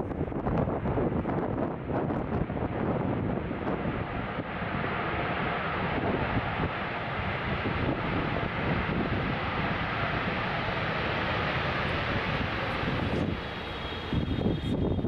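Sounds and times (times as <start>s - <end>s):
jet engines rushing: 0.0s - 15.0s
wind rumbling on microphone: 0.0s - 15.0s.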